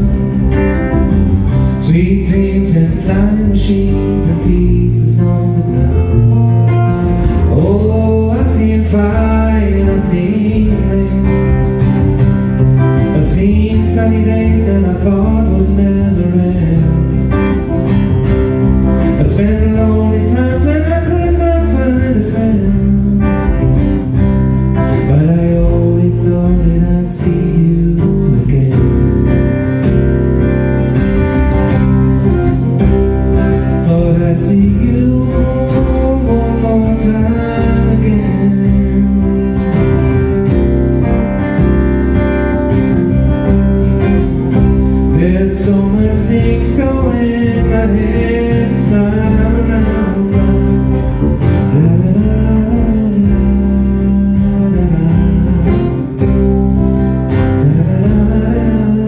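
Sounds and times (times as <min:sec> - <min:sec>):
acoustic guitar accompaniment: 0:00.0 - 0:59.0
bass guitar sliding melody: 0:00.0 - 0:59.0.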